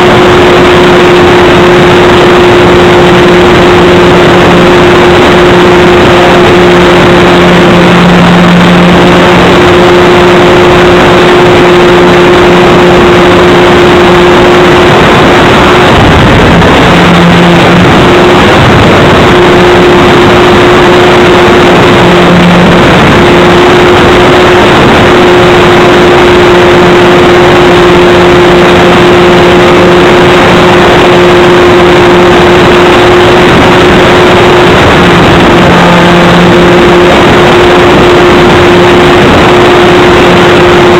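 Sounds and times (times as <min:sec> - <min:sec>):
electric motor and propeller drone: 0:00.0 - 0:40.9
wind rush: 0:00.0 - 0:40.9.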